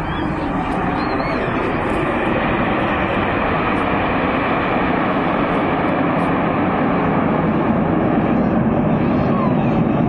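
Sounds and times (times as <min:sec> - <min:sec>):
jet engines flying past: 0:00.0 - 0:10.0.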